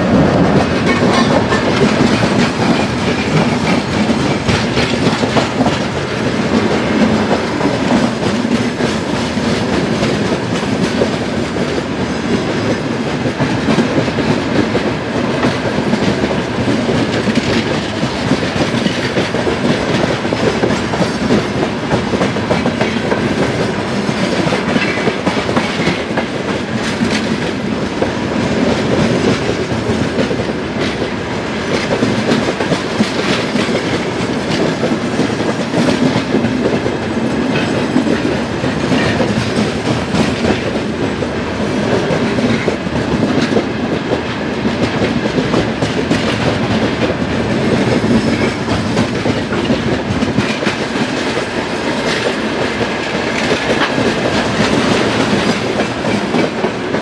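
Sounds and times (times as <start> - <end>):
train rumble and rattle: 0.0 - 57.0
train wheels clicking over rail joints: 0.0 - 57.0.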